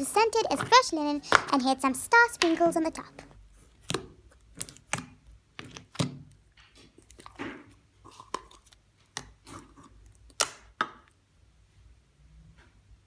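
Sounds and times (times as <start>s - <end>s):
hands squishing slime: 0.0s - 10.8s.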